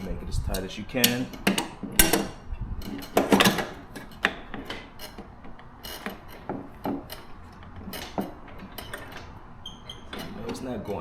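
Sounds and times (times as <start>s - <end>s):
wrench tightening a bolt: 0.0s - 10.6s
metallic clicks and knocks: 0.0s - 11.0s.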